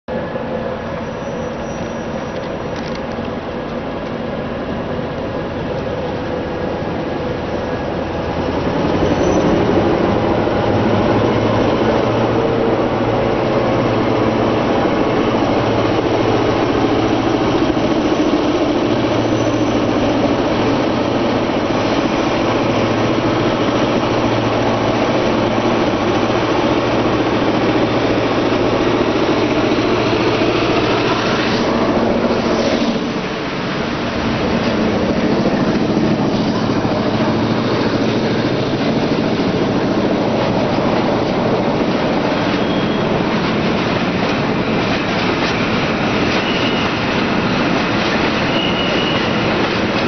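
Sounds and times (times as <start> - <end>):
diesel locomotive engine drone: 0.1 - 50.0.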